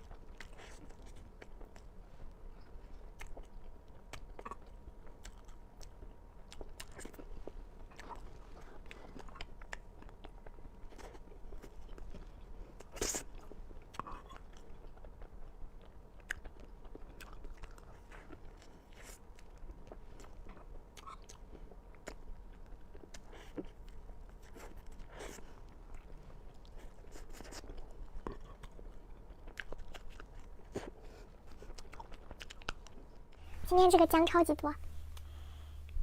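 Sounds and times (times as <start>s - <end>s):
person chewing cake: 0.0s - 33.4s.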